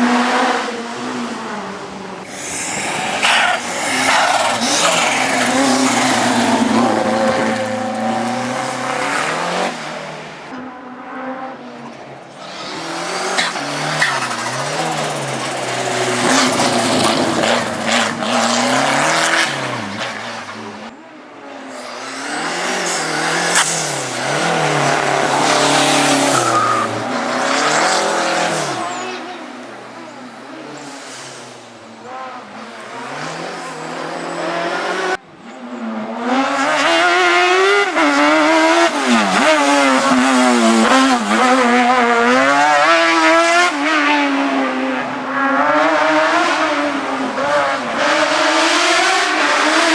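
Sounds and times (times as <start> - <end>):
racing car engines revving: 0.0 - 49.9.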